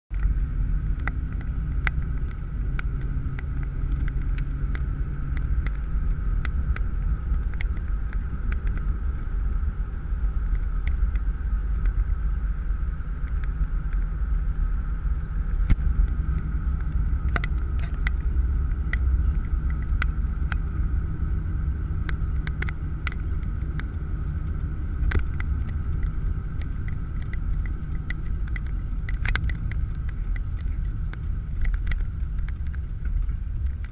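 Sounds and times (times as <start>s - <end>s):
car engine and road rumble: 0.1s - 33.9s
small ticks and rattles: 0.1s - 33.9s.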